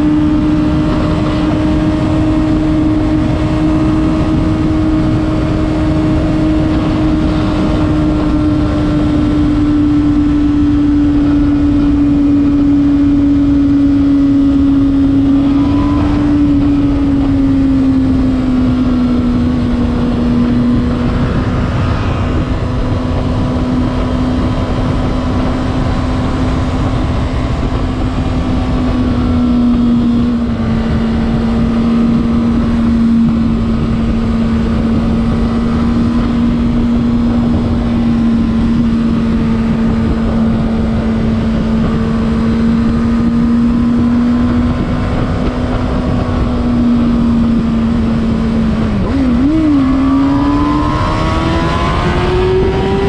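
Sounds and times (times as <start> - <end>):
motorcycle engine high pitch: 0.0 - 53.0
wind rush on microphone: 0.0 - 53.0.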